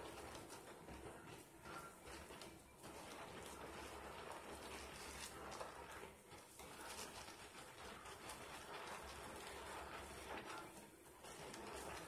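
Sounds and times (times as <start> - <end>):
soap lather squishing: 0.0 - 12.0.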